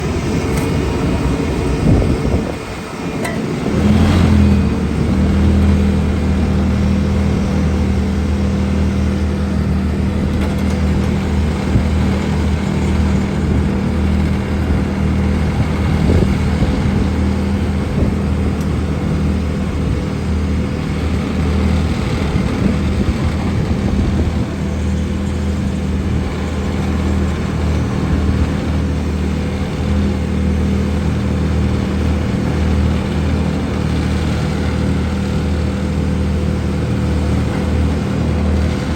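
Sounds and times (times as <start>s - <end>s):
paving machine engine humming: 0.0s - 38.9s.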